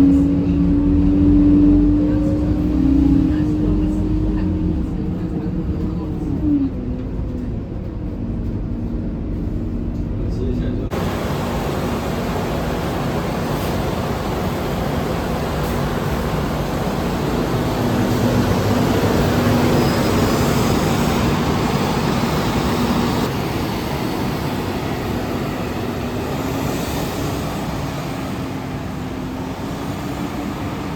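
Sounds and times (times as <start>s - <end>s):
bus engine drone: 0.0s - 30.9s
road and cabin noise: 0.0s - 30.9s.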